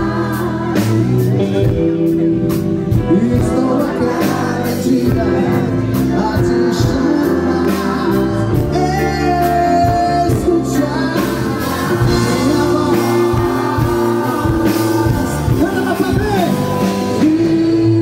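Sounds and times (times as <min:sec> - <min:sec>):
man singing into microphone: 0:00.0 - 0:02.2, 0:02.9 - 0:18.0
drums: 0:00.0 - 0:18.0
electric bass: 0:00.0 - 0:18.0.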